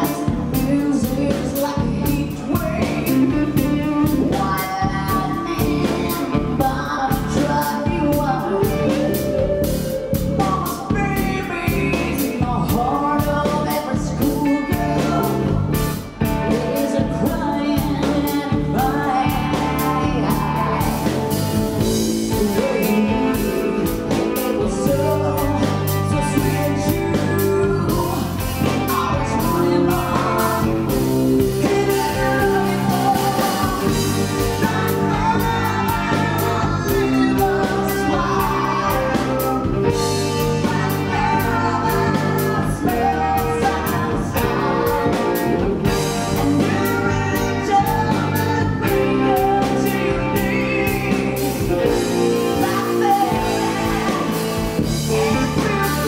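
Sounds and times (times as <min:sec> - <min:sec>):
drum kit: 0:00.0 - 0:56.0
electric guitars: 0:00.0 - 0:56.0
woman singing: 0:00.0 - 0:56.0.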